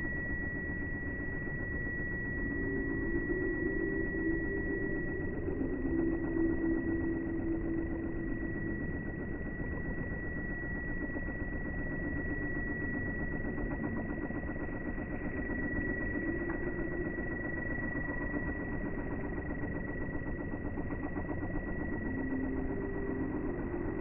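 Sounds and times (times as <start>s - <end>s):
small motor running: 0.0s - 24.0s.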